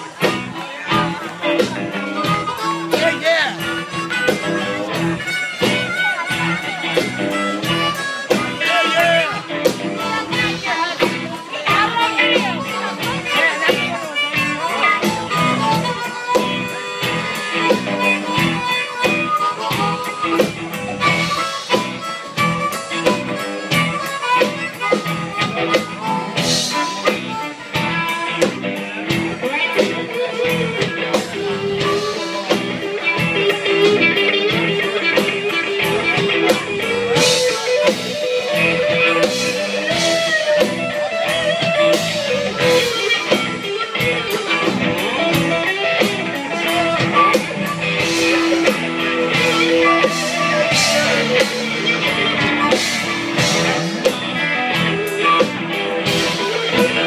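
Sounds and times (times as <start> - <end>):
amplified electric guitar: 0.0 - 57.0
live blues band playing: 0.0 - 57.0.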